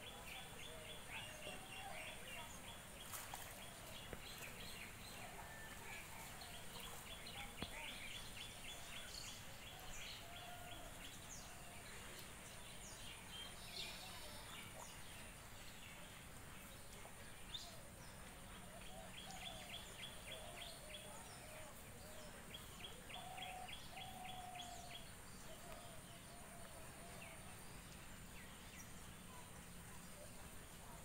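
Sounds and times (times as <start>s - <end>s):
birds chirping and warbling: 0.0s - 31.0s.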